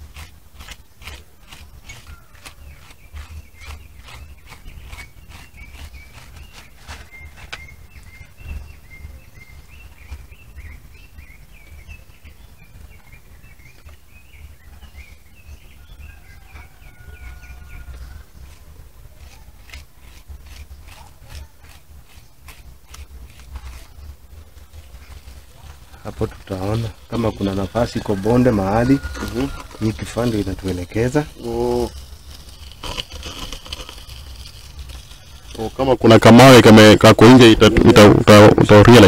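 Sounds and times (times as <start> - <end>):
small bird chirping: 0.0 - 39.0.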